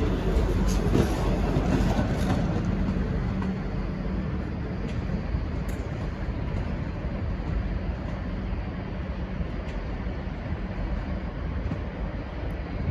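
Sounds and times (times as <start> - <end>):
diesel train rumbling: 0.0 - 12.9.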